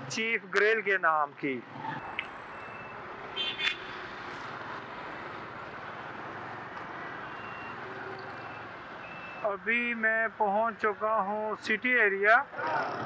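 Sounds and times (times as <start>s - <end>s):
city traffic noise: 0.0s - 13.0s.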